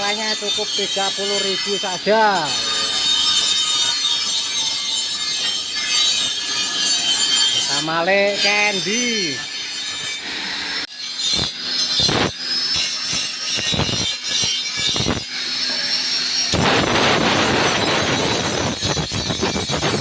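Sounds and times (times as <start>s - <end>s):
metal blade grinding: 0.0s - 20.0s.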